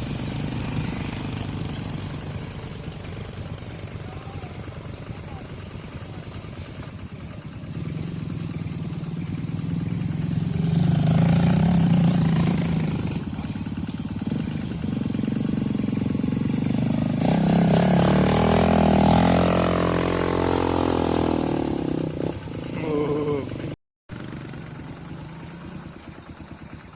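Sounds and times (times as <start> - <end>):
engine revving: 0.0 - 4.5, 7.8 - 26.1.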